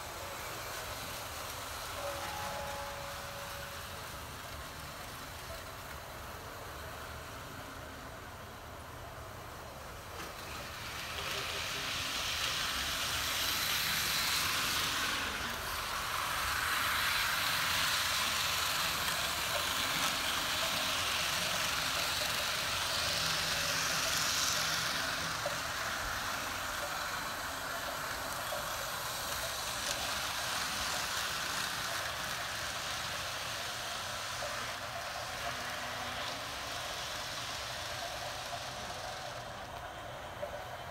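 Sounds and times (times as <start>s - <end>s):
model train whirring on track: 0.0s - 40.9s.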